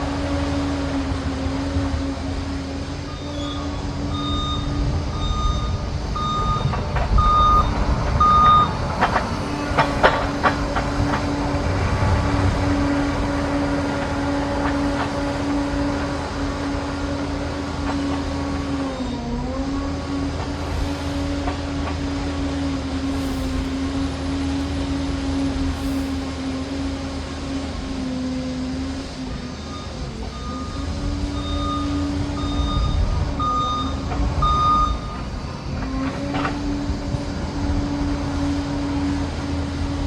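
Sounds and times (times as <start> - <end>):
crawler dozer engine drone: 0.0 - 40.0.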